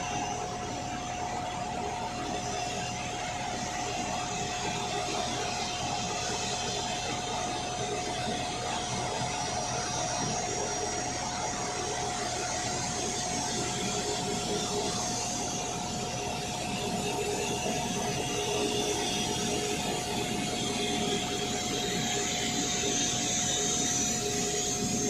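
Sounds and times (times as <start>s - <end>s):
jet airliner engines droning: 0.0s - 25.0s.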